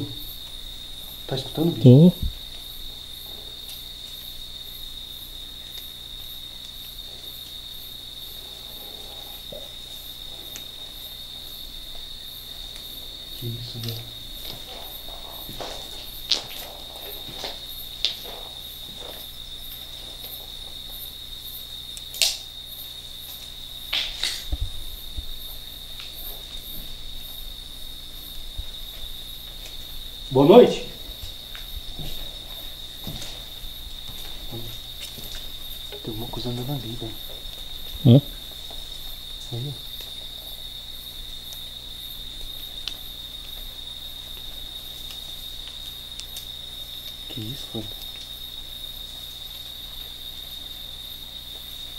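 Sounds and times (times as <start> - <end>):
crickets trilling: 0.0 - 51.9
faint high pulsing insect call: 0.0 - 51.9.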